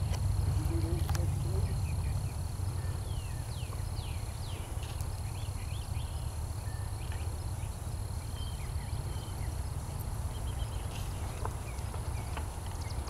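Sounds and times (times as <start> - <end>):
small birds chirping: 0.0 - 13.0
wind rumbling on microphone: 0.0 - 13.0.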